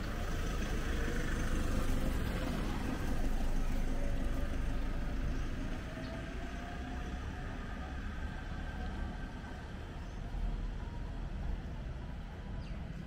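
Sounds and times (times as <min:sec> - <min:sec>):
vehicle engine running low rumble: 0:00.0 - 0:13.0.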